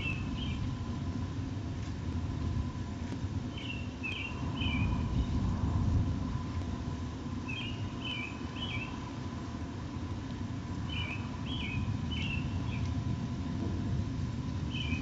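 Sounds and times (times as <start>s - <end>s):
faint constant tone: 0.0s - 15.0s
steady low rumble: 0.0s - 15.0s.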